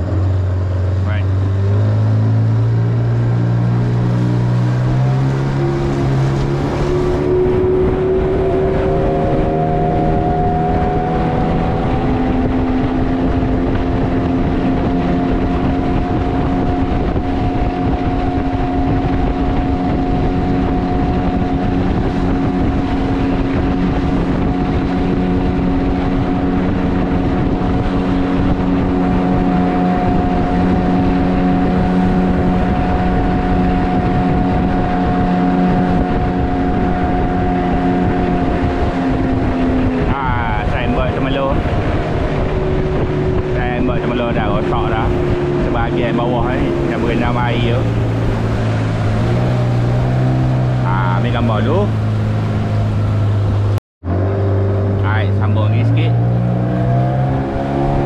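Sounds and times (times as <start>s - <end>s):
boat motor running: 0.0s - 58.0s.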